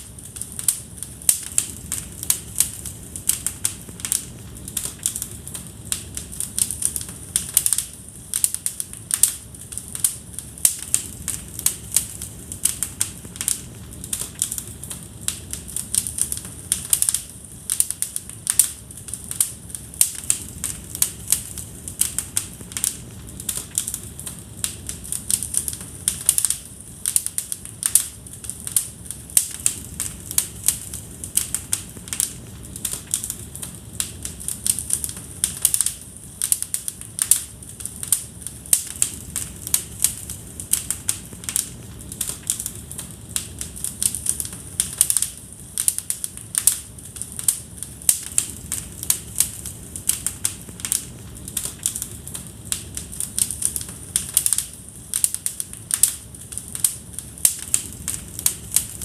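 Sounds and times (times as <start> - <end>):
fire pops and snaps: 0.0 - 59.0
low rumble of flames: 0.0 - 59.0.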